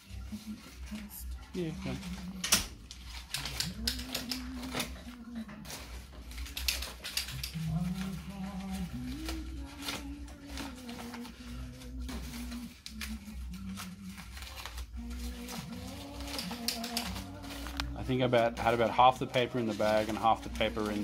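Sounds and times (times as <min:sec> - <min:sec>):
wrapping paper crinkling and tearing: 0:00.0 - 0:21.0.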